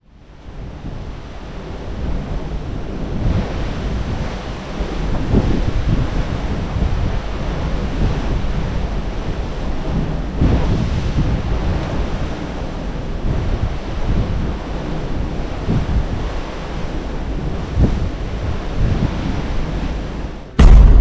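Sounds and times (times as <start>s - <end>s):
wind buffeting microphone: 0.0s - 21.0s
sea water rushing: 0.3s - 21.0s.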